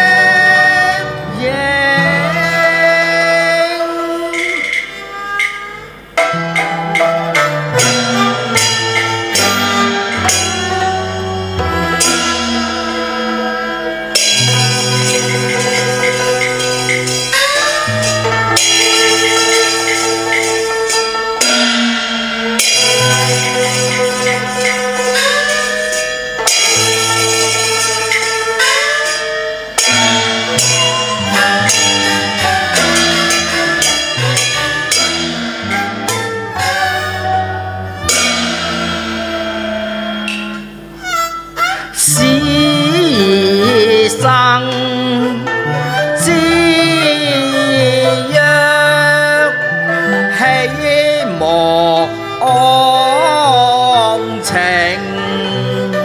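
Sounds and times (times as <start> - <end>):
instrumental band music: 0.0 - 56.0.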